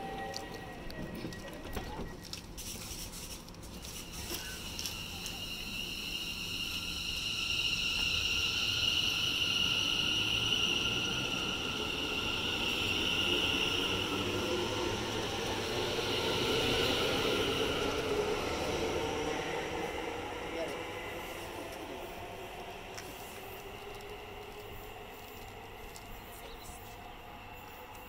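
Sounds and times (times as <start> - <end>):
train traction whine: 0.0 - 2.6, 3.4 - 28.0
wheels rumbling on rail: 3.8 - 28.0.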